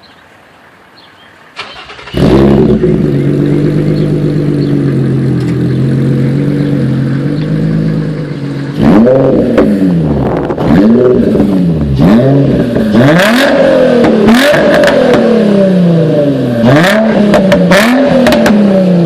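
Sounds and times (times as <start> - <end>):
car engine starting and idling: 1.5 - 19.0.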